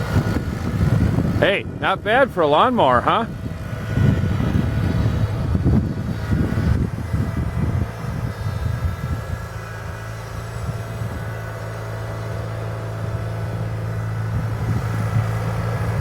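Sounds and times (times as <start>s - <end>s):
garden tractor engine running: 0.0s - 16.0s.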